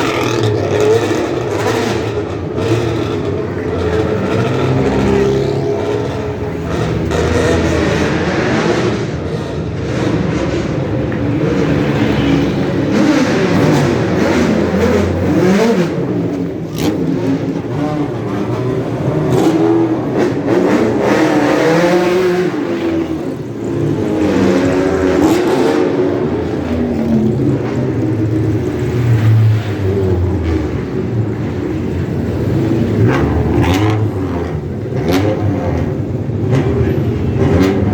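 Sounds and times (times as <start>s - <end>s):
sports car engines revving: 0.0s - 37.9s.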